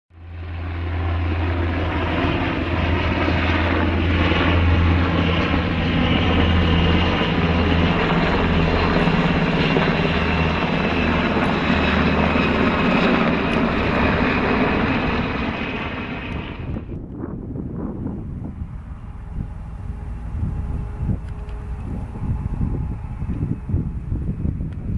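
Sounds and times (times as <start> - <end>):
helicopter turbine and rotor noise: 0.1 - 24.9.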